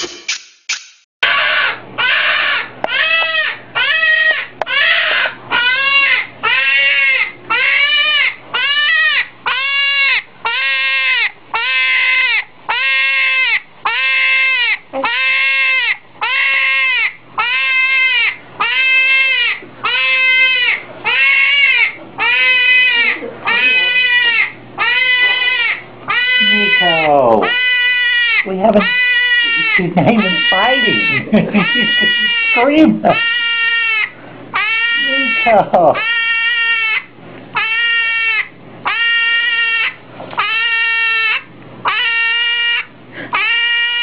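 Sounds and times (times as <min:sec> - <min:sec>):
hedgehog screaming: 0:01.2 - 0:44.0.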